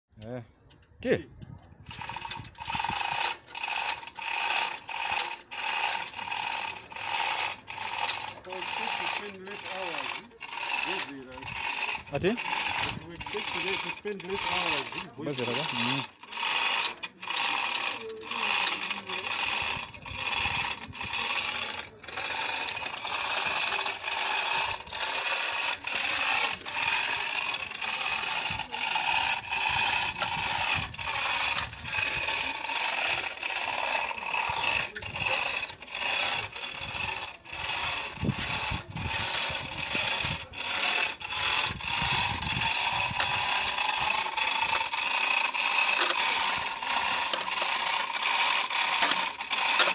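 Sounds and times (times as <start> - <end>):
chain rattling through hoist: 0.2 - 49.9
pawl ratchet clicking: 0.2 - 49.9.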